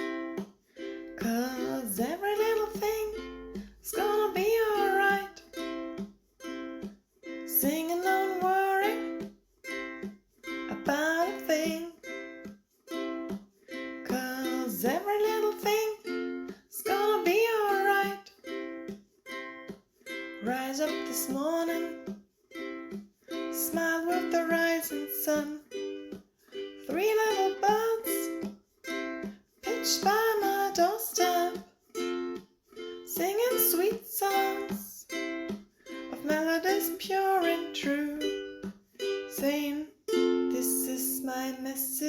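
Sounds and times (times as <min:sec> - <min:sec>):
ukulele strumming chords: 0:00.0 - 0:42.0
person singing: 0:00.8 - 0:06.0, 0:07.4 - 0:12.2, 0:13.7 - 0:18.7, 0:20.4 - 0:22.2, 0:23.3 - 0:26.2, 0:26.8 - 0:35.3, 0:35.9 - 0:42.0.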